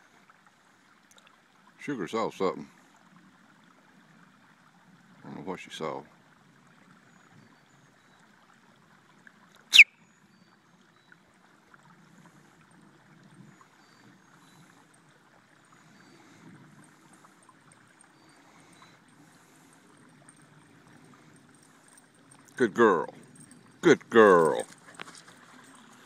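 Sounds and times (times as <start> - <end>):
water trickling into a pond: 0.0 - 26.0.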